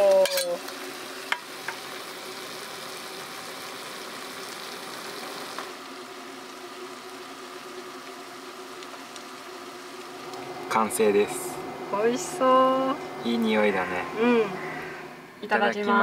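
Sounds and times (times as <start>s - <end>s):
fish and peppers sizzling in a pan: 0.0s - 16.0s.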